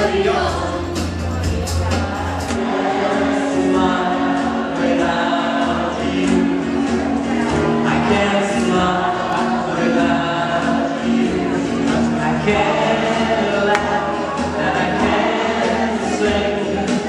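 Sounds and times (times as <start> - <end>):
accompanying music: 0.0 - 17.0
choir-like backing voices: 0.0 - 17.0
man singing into a microphone: 3.0 - 17.0.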